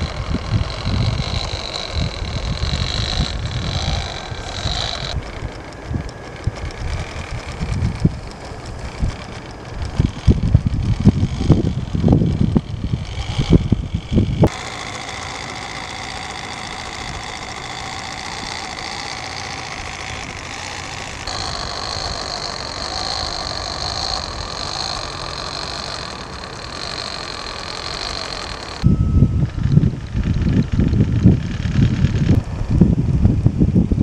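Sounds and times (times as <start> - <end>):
small electric motor whine: 0.0 - 33.5
wind buffeting microphone: 0.0 - 34.0.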